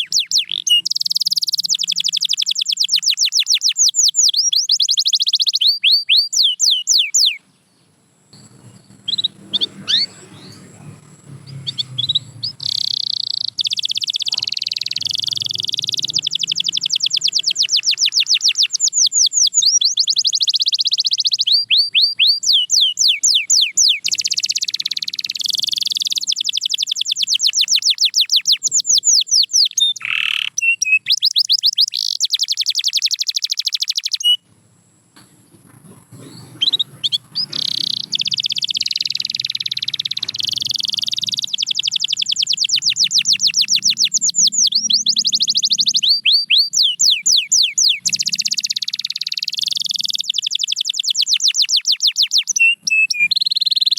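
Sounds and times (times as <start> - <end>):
canary singing trills: 0.0 - 34.5, 35.2 - 53.9.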